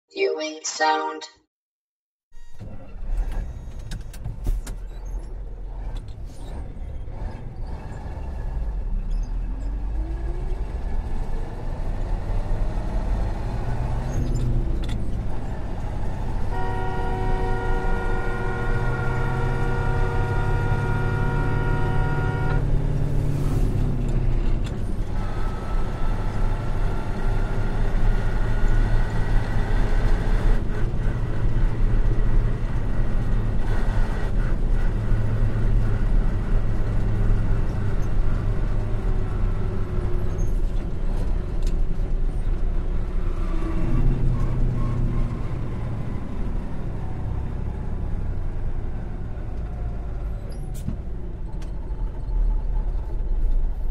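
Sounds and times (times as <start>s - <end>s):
truck engine: 3.0s - 53.9s
road noise: 3.3s - 53.9s.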